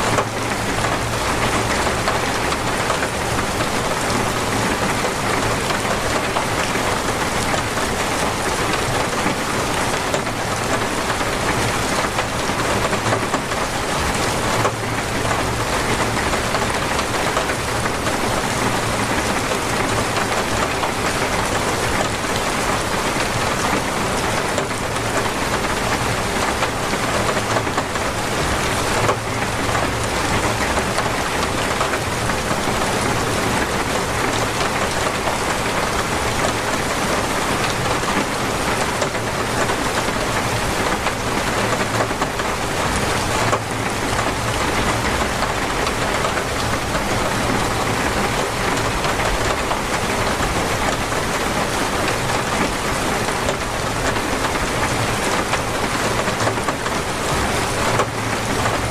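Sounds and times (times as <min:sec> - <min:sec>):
torrential rain hiss: 0:00.0 - 0:58.9.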